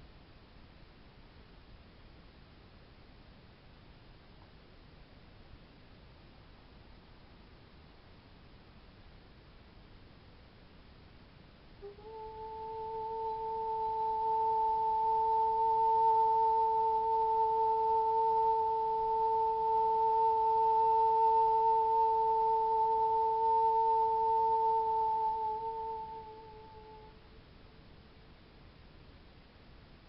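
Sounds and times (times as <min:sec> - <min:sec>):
long pure steady tone: 0:00.0 - 0:30.0.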